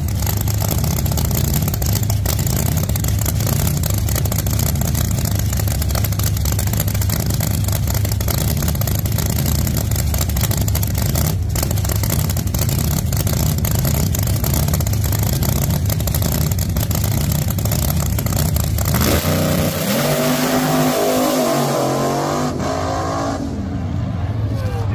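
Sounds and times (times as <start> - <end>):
drag car engine accelerating: 0.0 - 24.9.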